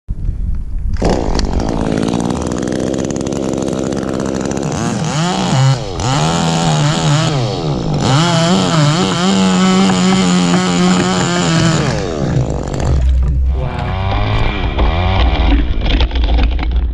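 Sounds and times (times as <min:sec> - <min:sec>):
chainsaw engine revving: 0:01.0 - 0:16.9.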